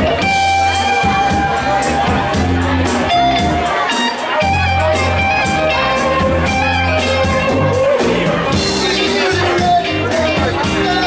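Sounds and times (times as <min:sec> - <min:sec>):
bass guitar: 0:00.0 - 0:11.0
drums with cymbal beat: 0:00.0 - 0:11.0
electric guitar: 0:00.0 - 0:11.0.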